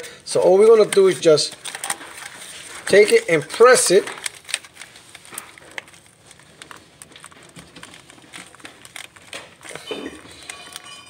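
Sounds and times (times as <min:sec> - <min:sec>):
glove crinkling: 0:00.4 - 0:11.0.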